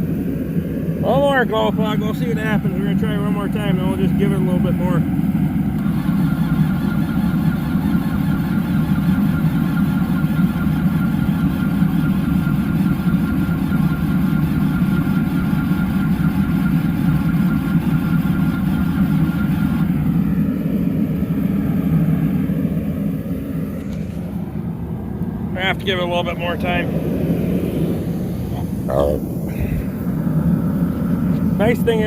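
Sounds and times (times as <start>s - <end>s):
machinery droning: 0.0s - 32.0s.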